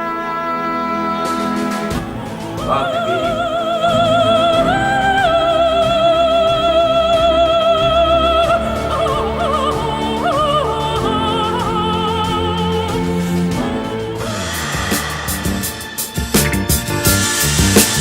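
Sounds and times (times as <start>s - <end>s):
operatic singing: 0.0s - 16.3s
orchestral music: 0.0s - 18.0s.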